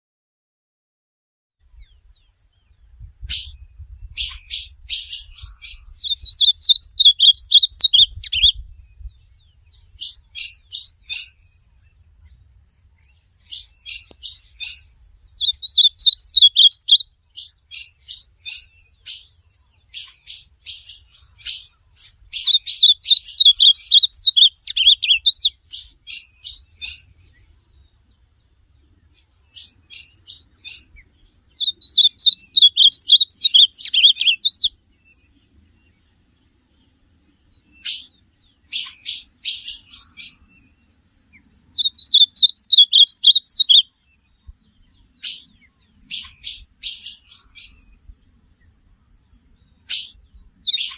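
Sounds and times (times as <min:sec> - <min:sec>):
bird singing ticking notes: 0:01.7 - 0:50.9.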